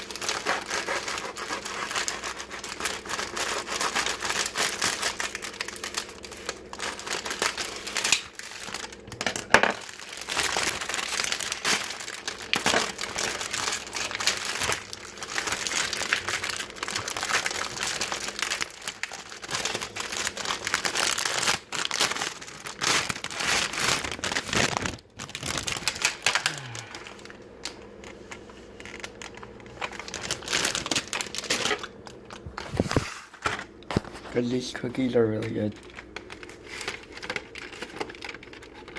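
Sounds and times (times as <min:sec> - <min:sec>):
plastic packaging crinkling: 0:00.0 - 0:38.9.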